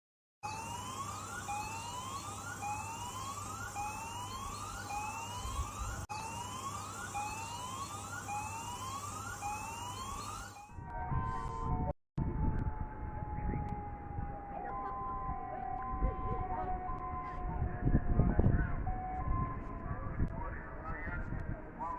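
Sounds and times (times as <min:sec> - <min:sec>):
electronic siren whooping: 0:00.4 - 0:21.5.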